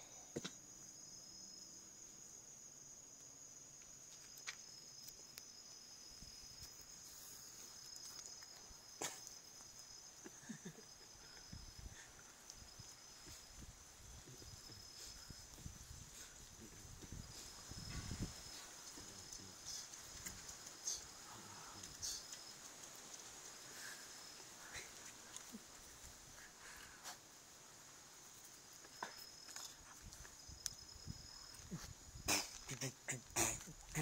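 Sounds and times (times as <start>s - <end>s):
night insects chirring: 0.0s - 34.0s.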